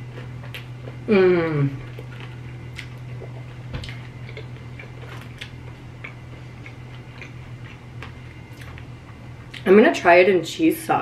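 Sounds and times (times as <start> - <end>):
chewing crunchy food: 0.0 - 1.1, 1.7 - 9.7
steady low hum: 0.0 - 11.0.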